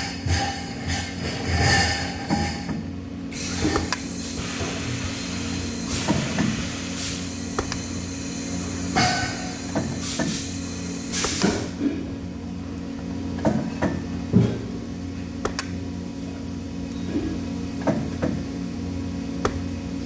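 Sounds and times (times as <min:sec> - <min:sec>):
industrial machinery hum: 0:00.0 - 0:20.0.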